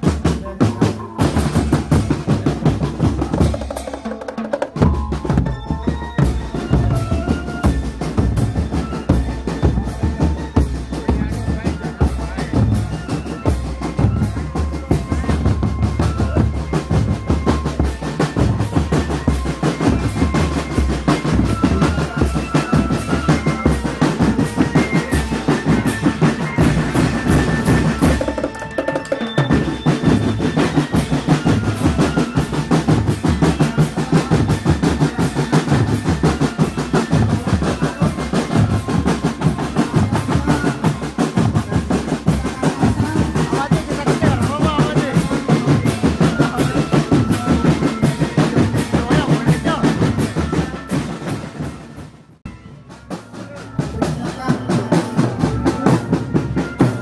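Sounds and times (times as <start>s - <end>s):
snare and bass drums beating: 0.0s - 52.3s
high melodic notes: 0.5s - 57.0s.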